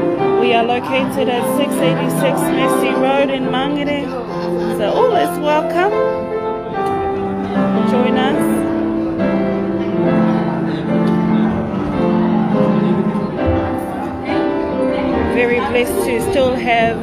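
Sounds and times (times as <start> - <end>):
keyboard playing slow chords: 0.0 - 17.0.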